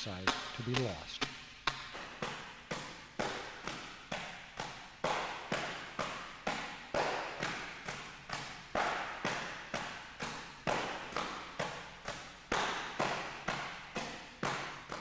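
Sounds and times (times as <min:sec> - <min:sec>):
palms slapping training bag: 0:00.0 - 0:15.0.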